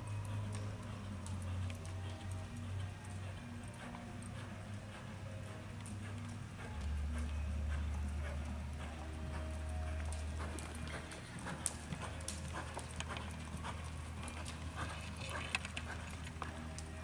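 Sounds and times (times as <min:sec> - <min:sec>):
hoofbeats on soft dirt: 0:00.0 - 0:17.0.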